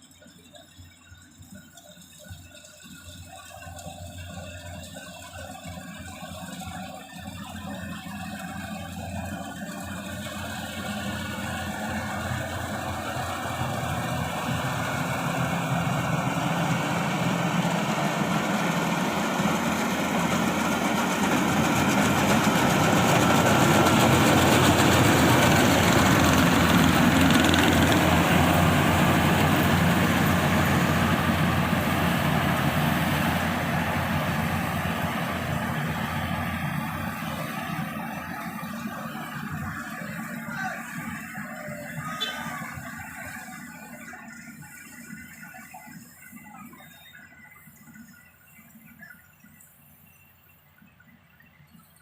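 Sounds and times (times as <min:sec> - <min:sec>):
combine harvester diesel engine: 0:01.2 - 0:47.2.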